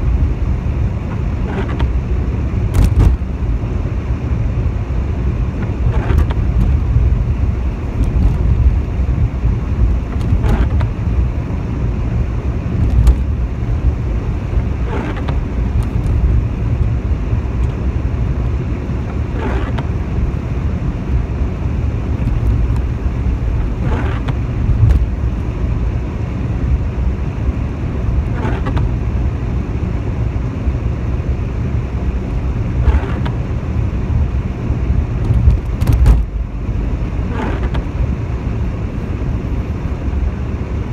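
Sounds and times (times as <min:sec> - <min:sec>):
car driving on wet road: 0:00.0 - 0:40.9
windscreen wipers sweeping: 0:00.0 - 0:40.9.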